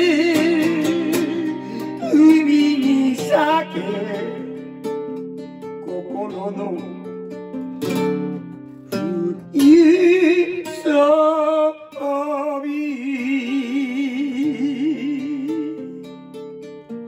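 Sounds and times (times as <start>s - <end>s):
man singing: 0.0s - 5.2s, 5.8s - 7.2s, 8.9s - 16.2s
strummed acoustic guitar: 0.0s - 17.0s.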